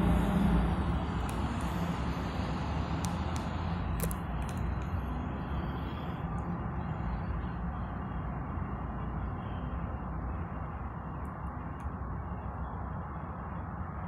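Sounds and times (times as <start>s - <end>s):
idling engines and road traffic: 0.0s - 14.0s.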